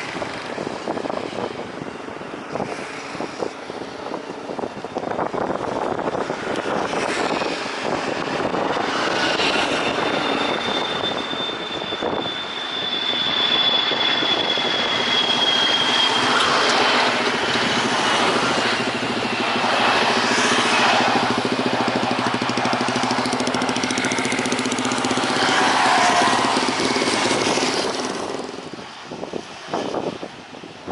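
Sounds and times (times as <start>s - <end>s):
propeller aircraft engines: 0.0s - 30.9s.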